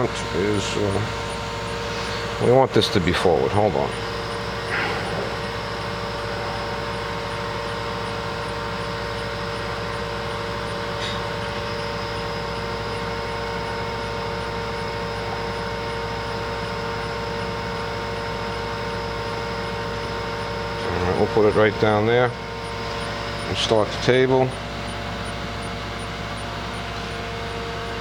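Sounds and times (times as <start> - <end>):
machine hum: 0.0 - 28.0.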